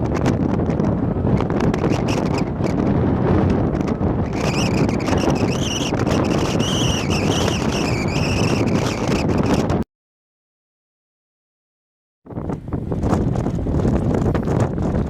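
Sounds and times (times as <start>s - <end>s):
wind buffeting microphone: 0.0s - 9.8s, 12.2s - 15.0s.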